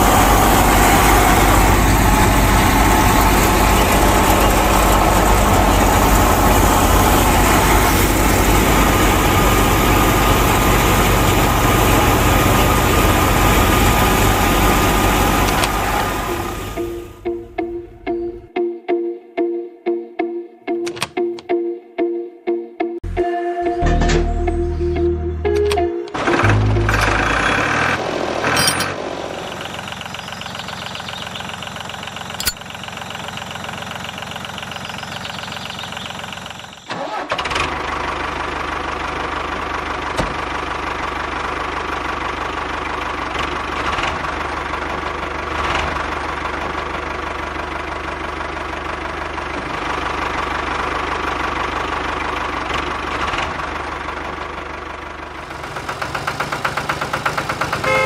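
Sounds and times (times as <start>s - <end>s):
tractor engine idling: 0.0s - 18.5s, 23.8s - 58.0s.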